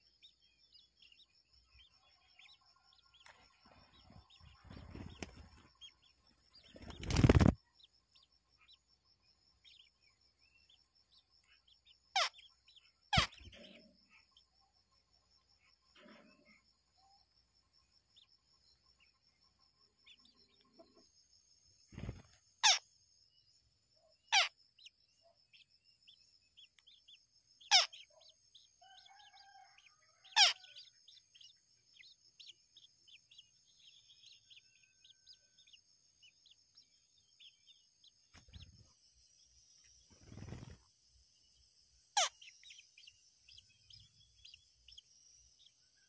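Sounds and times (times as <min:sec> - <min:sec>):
faint chirps: 0:00.0 - 0:46.0.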